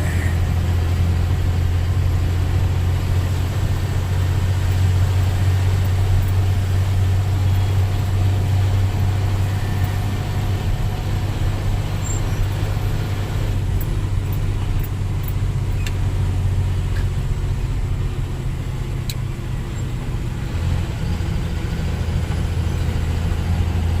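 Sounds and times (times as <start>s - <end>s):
road noise: 0.0s - 24.0s
vehicle engine droning: 0.0s - 24.0s.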